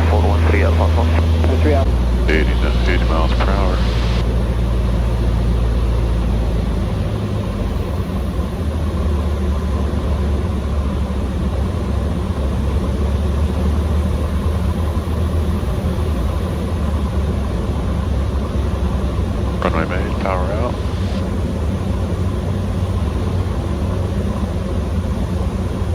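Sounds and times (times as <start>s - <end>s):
light aircraft engine droning: 0.0s - 25.9s.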